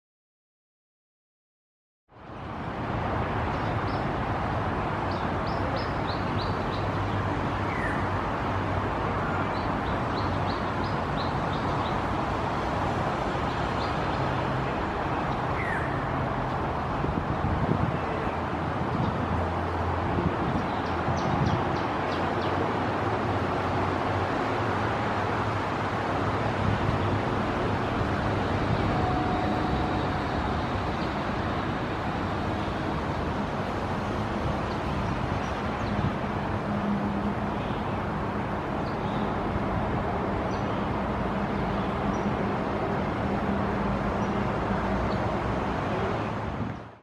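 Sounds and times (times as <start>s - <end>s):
background traffic noise: 2.1s - 47.0s.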